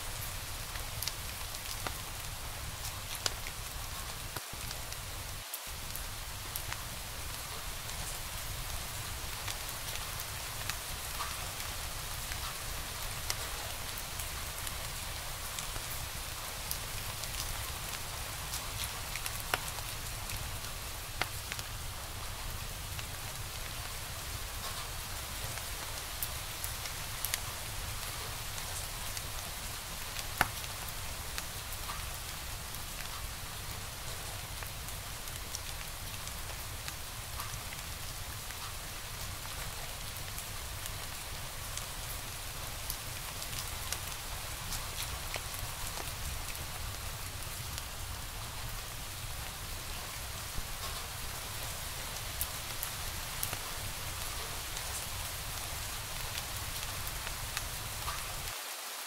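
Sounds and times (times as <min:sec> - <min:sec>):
wood fire crackling and popping: 0:05.8 - 0:58.5.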